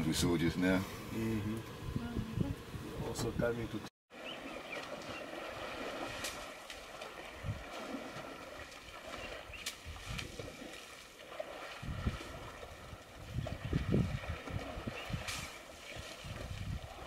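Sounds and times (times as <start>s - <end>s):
faint water sounds: 0.0s - 17.0s.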